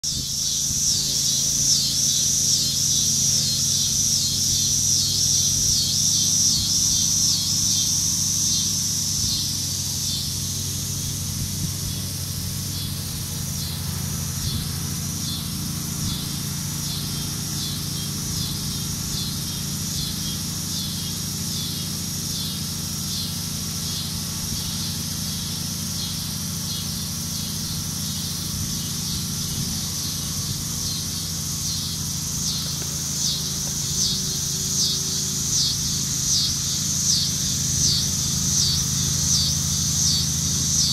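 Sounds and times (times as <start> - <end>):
insects pulsing buzz: 0.0 - 40.9
steady low hum: 0.0 - 40.9.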